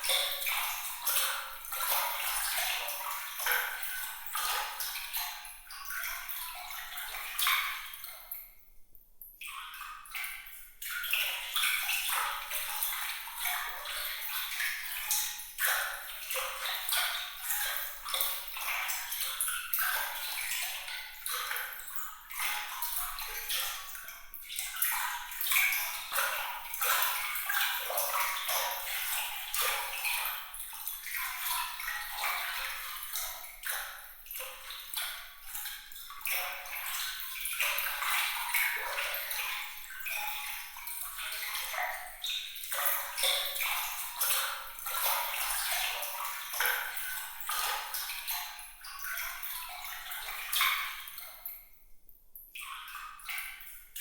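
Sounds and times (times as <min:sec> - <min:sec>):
water trickling and splashing: 0:00.0 - 0:08.6, 0:09.4 - 0:51.8, 0:52.6 - 0:54.0.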